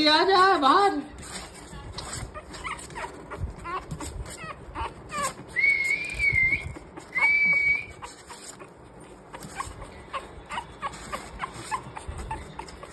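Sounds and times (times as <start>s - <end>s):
puppies whining: 1.1s - 12.9s
puppy squeaks: 1.2s - 12.9s.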